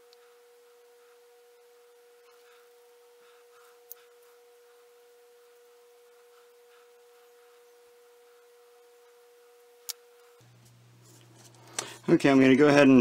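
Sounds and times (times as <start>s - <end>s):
faint steady pure tone: 0.0s - 11.0s
low steady hum: 0.0s - 13.0s.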